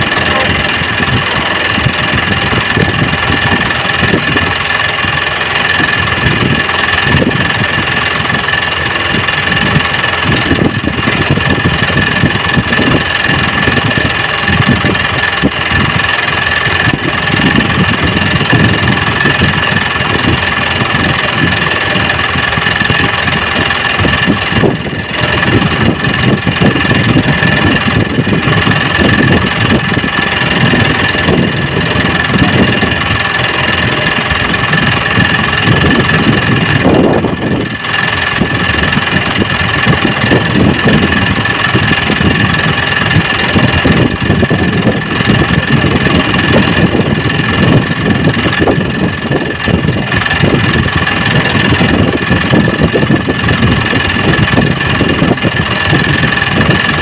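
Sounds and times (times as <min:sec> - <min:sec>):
small boat engine idling: 0:00.0 - 0:57.0.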